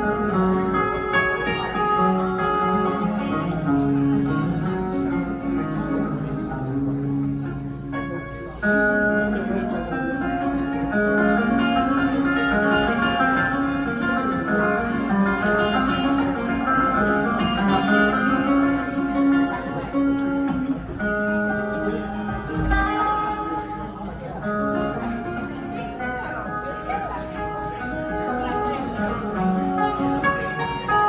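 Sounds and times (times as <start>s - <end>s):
guitar plucked and strummed: 0.0s - 31.0s
live rock band instrumental: 0.0s - 31.0s.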